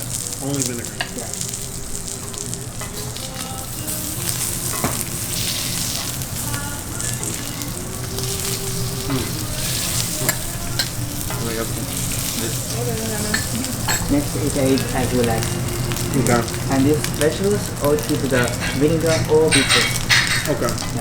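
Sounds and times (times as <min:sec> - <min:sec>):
food sizzling in frying: 0:00.0 - 0:21.0.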